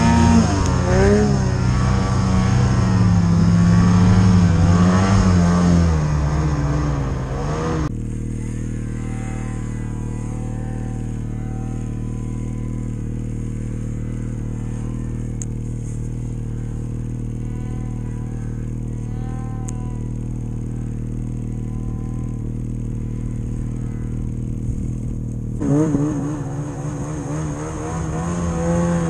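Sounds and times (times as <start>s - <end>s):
distant snowmobile engines: 0.0s - 29.0s
snowmobile engine revving: 0.0s - 29.0s.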